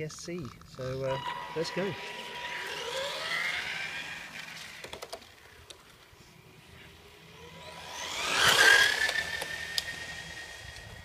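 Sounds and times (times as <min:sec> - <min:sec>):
rc car electric motor whine: 0:00.8 - 0:11.0.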